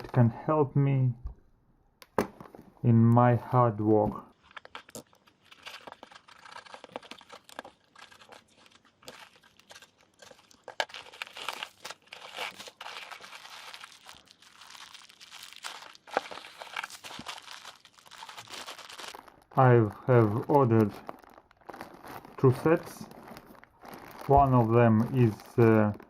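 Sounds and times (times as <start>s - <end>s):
packaging crinkling and rustling: 4.1s - 26.0s.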